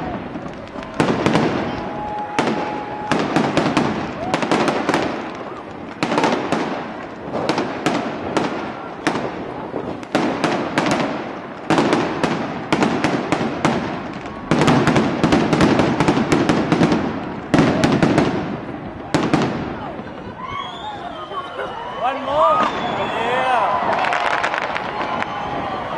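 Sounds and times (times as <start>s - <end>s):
fireworks bursting with echo: 0.0s - 25.9s.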